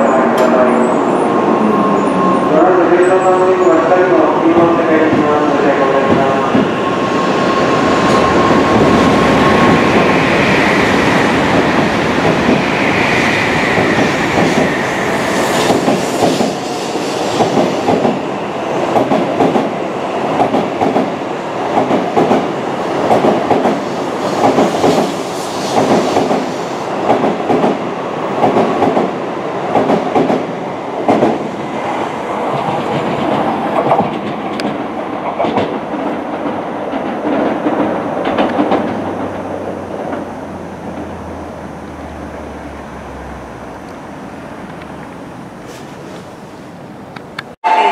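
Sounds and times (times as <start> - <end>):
train rumble: 0.0 - 47.9.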